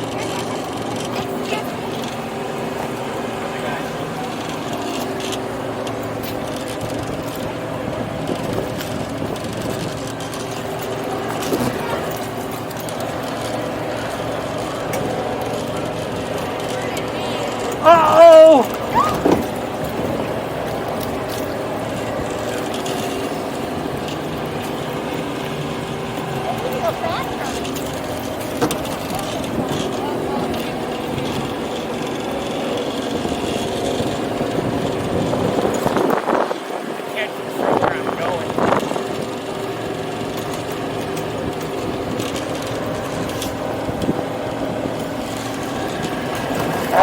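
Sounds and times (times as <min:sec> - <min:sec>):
boat motor humming: 0:00.0 - 0:47.0.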